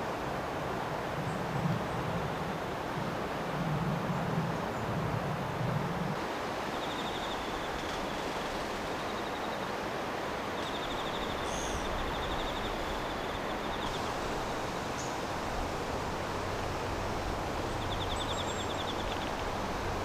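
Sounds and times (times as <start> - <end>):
outdoor ambient hiss: 0.0 - 20.0.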